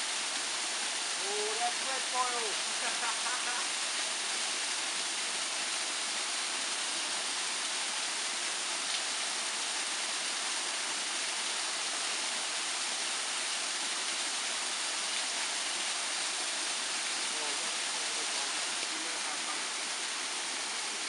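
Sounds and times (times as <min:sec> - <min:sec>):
waterfall splashing onto rocks: 0:00.0 - 0:21.0.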